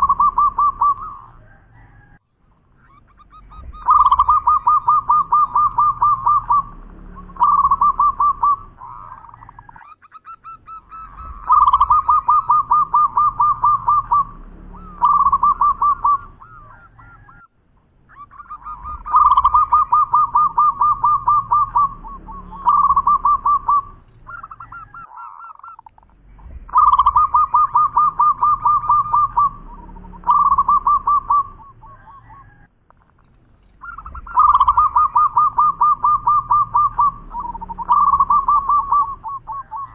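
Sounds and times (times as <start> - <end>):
dove cooing: 0.0 - 2.2, 2.8 - 39.9.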